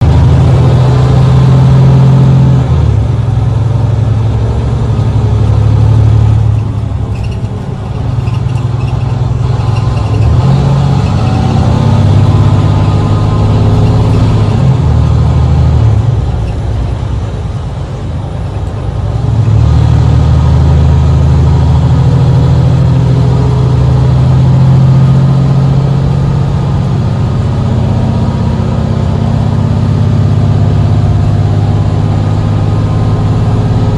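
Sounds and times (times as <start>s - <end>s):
bus diesel engine accelerating: 0.0s - 33.9s.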